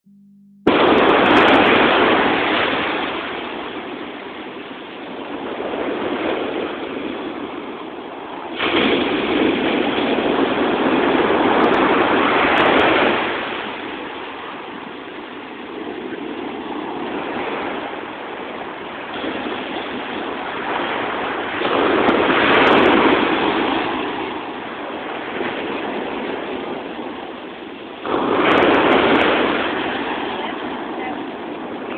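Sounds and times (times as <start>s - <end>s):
water rushing across sand: 0.7s - 31.9s.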